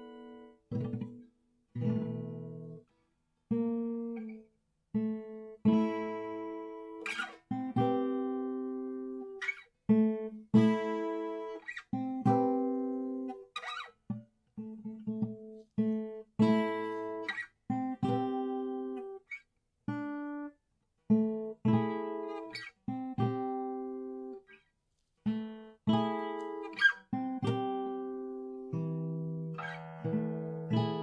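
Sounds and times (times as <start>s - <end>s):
guitar chords strummed: 0.0s - 2.8s, 5.0s - 19.3s, 21.1s - 24.5s, 25.3s - 31.0s.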